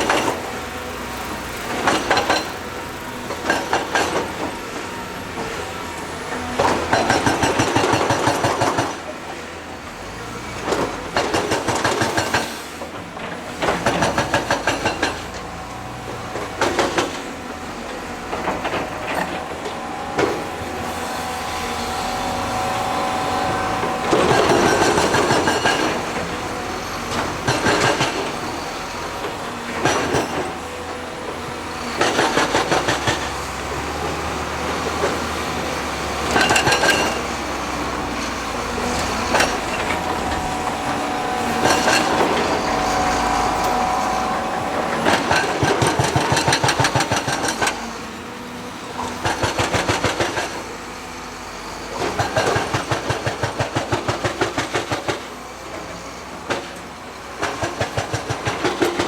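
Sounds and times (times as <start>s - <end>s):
construction machinery engine: 0.0s - 59.0s.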